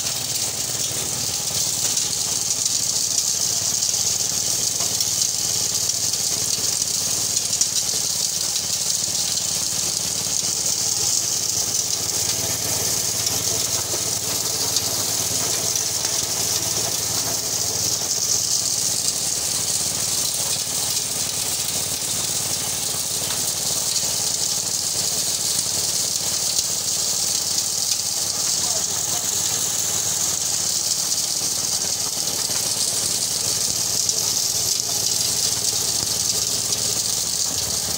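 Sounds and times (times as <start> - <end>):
rattle of grain through thresher drum: 0.0 - 37.9.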